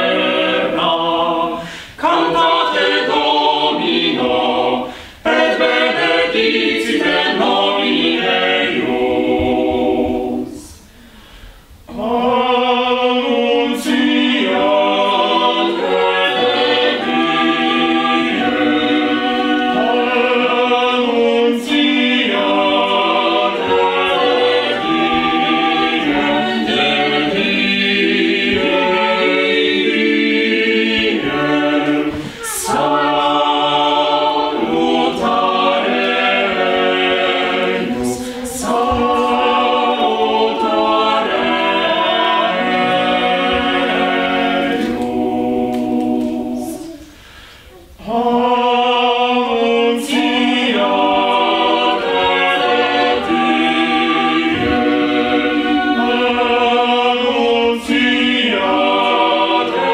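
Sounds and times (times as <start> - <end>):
a cappella choir singing: 0.0 - 59.9.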